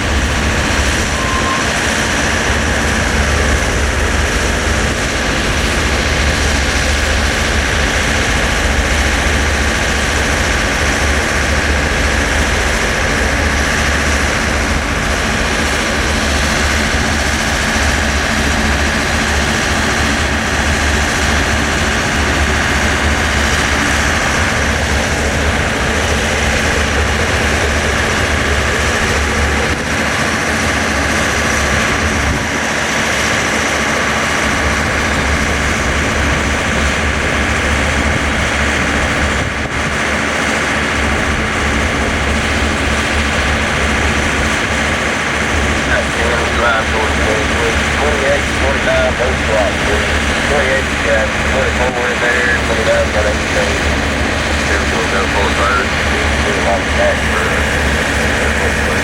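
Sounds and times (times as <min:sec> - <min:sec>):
heavy engine rumbling: 0:00.0 - 0:59.0.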